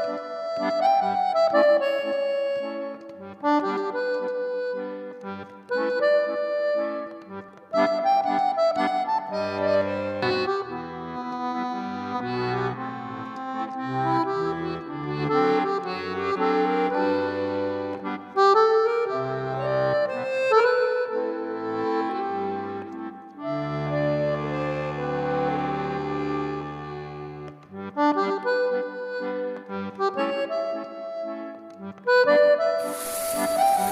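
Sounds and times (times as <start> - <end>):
accordion melody: 0.0 - 33.9.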